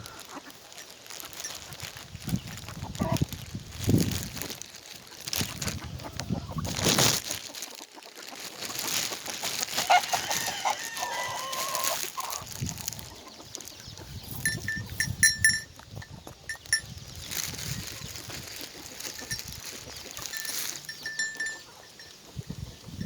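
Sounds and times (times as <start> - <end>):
chickens clucking: 0.0 - 3.5, 4.5 - 23.0.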